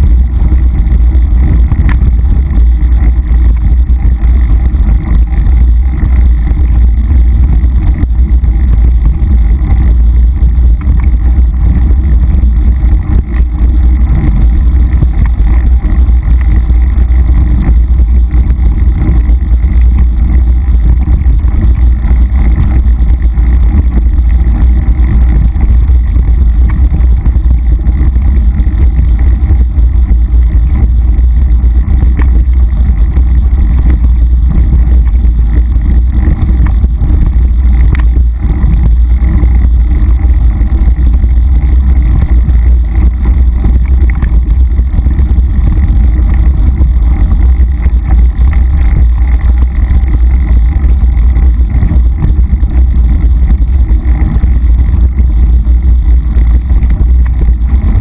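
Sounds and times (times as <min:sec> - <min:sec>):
wind buffeting and trail rumble: 0:00.0 - 0:58.0.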